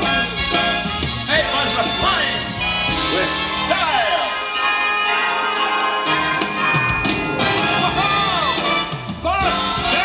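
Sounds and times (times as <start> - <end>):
show music over loudspeakers: 0.0 - 10.0.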